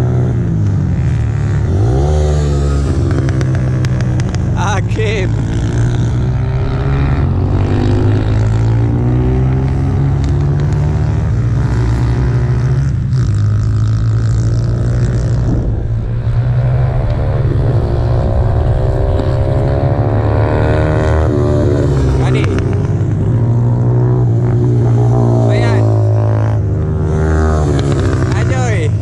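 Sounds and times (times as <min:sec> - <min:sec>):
motorcycle engine revving: 0:00.0 - 0:29.0
wind rumble on microphone: 0:02.7 - 0:29.0.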